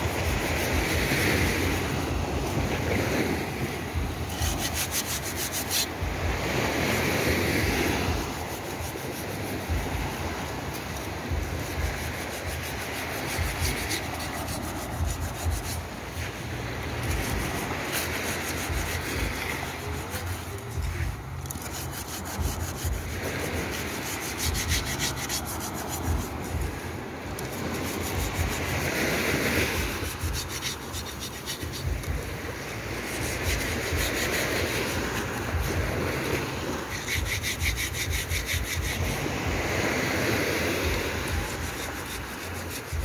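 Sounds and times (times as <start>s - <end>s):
sand scouring metal pot: 0.0s - 43.0s.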